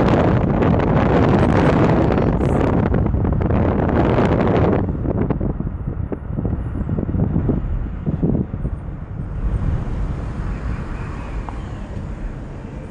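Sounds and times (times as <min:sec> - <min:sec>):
road rumble inside car: 0:00.0 - 0:12.9
wind buffeting microphone: 0:00.0 - 0:12.9.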